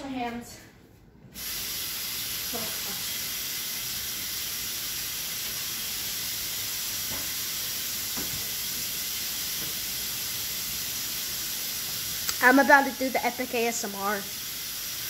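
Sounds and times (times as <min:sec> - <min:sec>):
steady hiss: 0:01.3 - 0:15.0.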